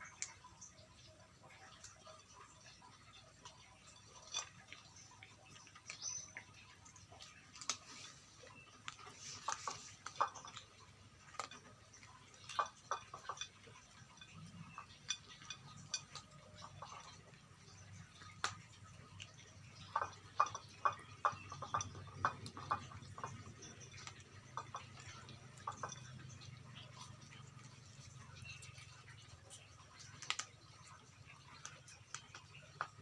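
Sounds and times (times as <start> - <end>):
dogs crunching bones: 0.0 - 33.0.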